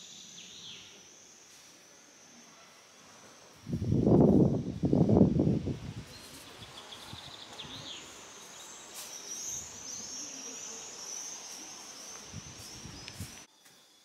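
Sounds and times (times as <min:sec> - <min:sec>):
light background hiss: 0:00.0 - 0:14.0.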